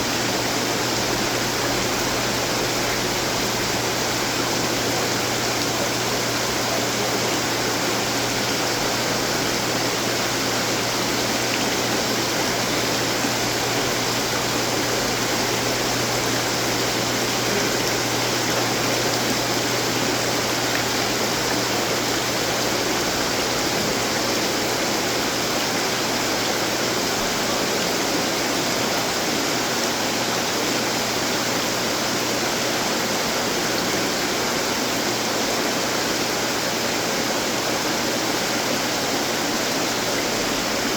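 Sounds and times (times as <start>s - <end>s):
fountains splashing and trickling: 0.0s - 40.9s.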